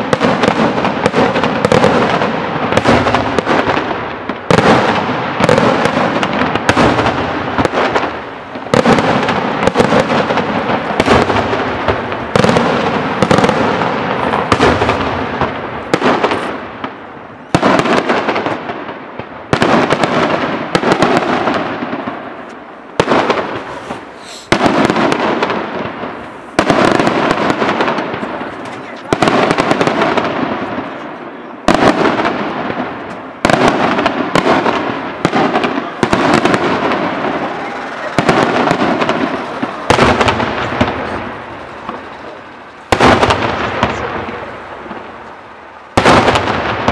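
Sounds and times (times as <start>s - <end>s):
firework shells bursting: 0.0s - 30.9s, 31.7s - 46.9s
firework crackling: 0.0s - 46.9s.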